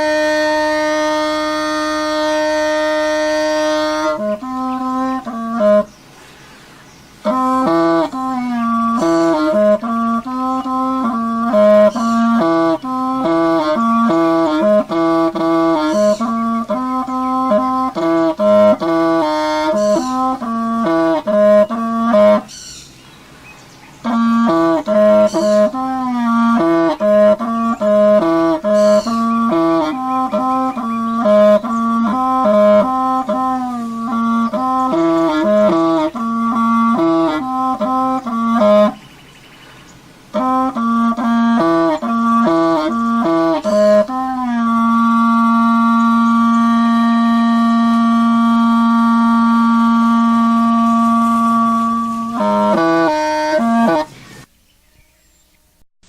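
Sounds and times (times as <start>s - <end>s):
wind instrument melody: 0.0s - 23.4s, 24.0s - 54.5s.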